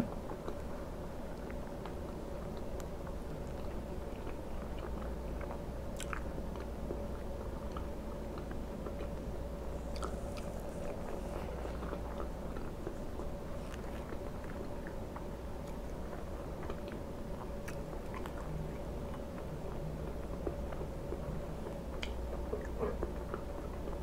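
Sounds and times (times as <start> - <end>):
person chewing soft food: 0.1 - 24.0.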